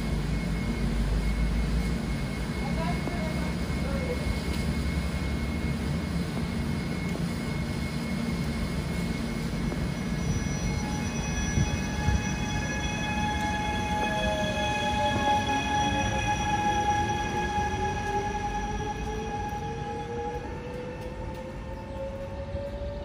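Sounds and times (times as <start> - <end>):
high steady tones: 0.0 - 22.8
rising whine: 0.0 - 23.0
train wheels rumbling on rails: 0.0 - 23.0.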